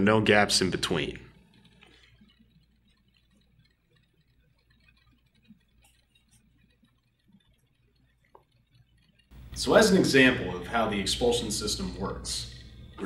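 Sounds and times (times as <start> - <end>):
faint room hum: 0.0 - 13.0
faint ticks: 0.5 - 13.0.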